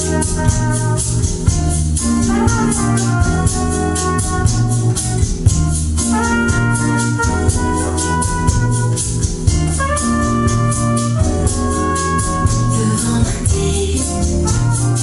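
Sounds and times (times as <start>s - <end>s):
heavy bass line: 0.0s - 15.0s
quick ticking beat: 0.0s - 15.0s.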